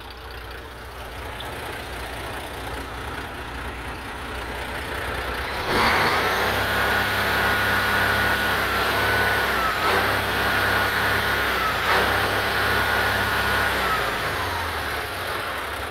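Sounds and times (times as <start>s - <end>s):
truck diesel engine whining: 0.0s - 15.9s.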